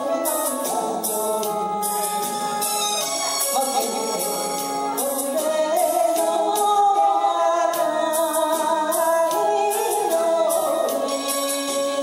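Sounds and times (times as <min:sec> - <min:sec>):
karaoke backing track with beat: 0:00.0 - 0:12.0
woman singing into a microphone: 0:00.0 - 0:12.0.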